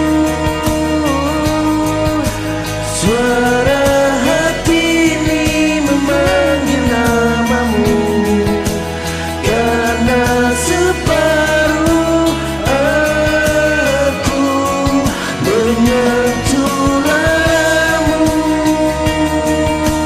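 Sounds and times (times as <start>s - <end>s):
pop ballad backing track: 0.0s - 20.0s.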